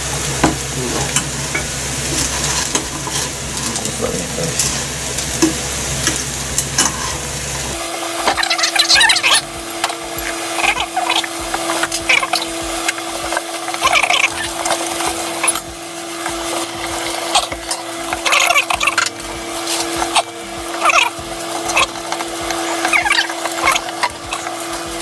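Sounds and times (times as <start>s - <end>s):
noodles sizzling in frying pan: 0.0s - 25.0s
steady hum: 0.0s - 25.0s
wooden spatula scraping pan: 2.0s - 3.9s, 4.5s - 25.0s.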